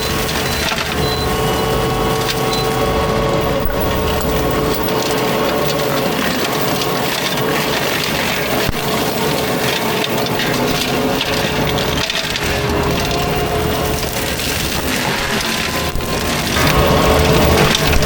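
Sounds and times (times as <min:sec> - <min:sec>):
mulcher grinding wood: 0:00.0 - 0:18.0
spinning drum whine: 0:00.0 - 0:18.0.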